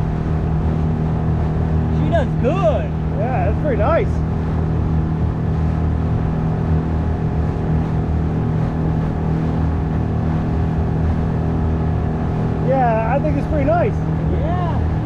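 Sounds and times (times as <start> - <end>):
outboard motor droning: 0.0 - 15.0.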